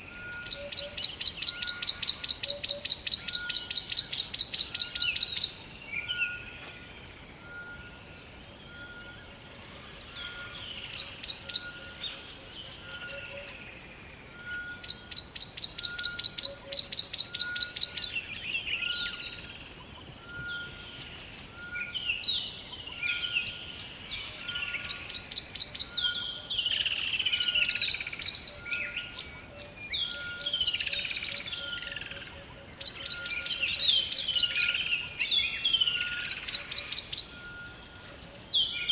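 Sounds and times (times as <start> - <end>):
songbirds trilling: 0.0 - 38.9.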